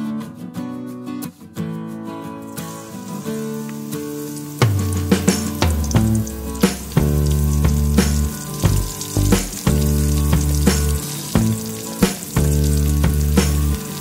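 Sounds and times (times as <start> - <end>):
food sizzling in oil: 2.4 - 14.0
music with bass and beat: 2.6 - 14.0.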